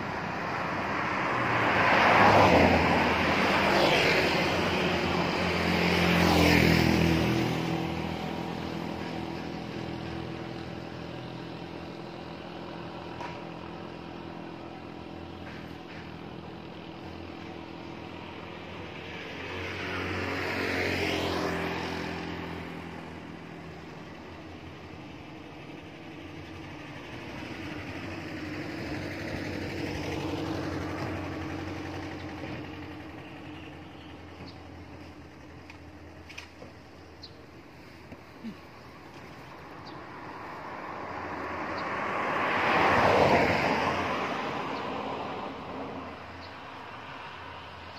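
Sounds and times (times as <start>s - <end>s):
road vehicles passing by: 0.0s - 47.9s.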